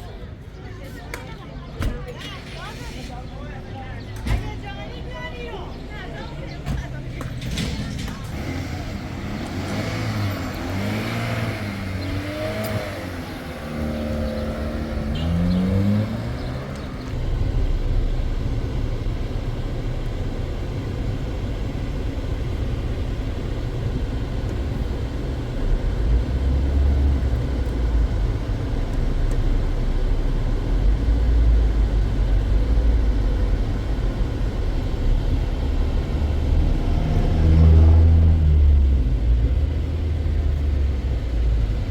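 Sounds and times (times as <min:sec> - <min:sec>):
vehicle engine running: 0:08.0 - 0:41.9.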